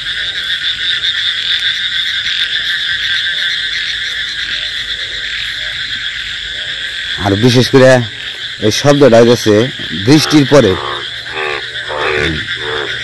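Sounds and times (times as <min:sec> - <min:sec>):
chorus of frogs calling: 0:00.0 - 0:13.0.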